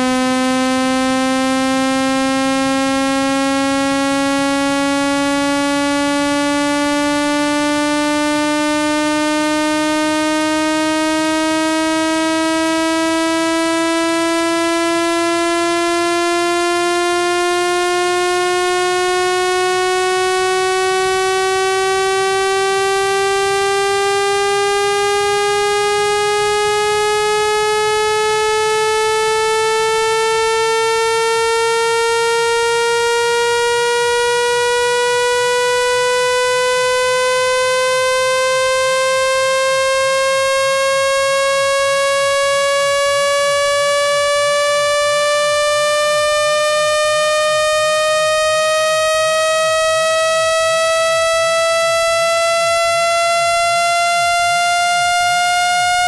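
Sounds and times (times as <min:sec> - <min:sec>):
buzzy electronic tone rising: 0:00.0 - 0:56.0.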